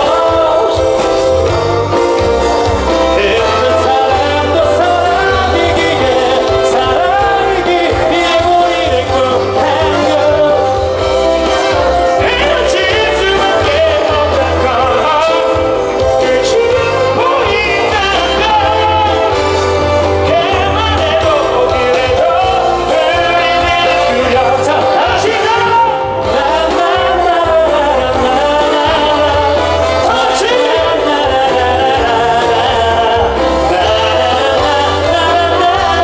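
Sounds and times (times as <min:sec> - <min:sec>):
men singing over amplified music: 0:00.0 - 0:36.0.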